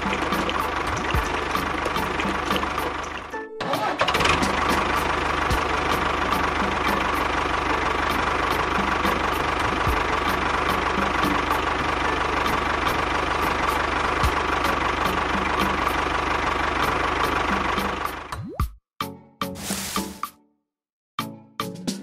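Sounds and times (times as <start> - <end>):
knocking tractor engine running: 0.0 - 18.3.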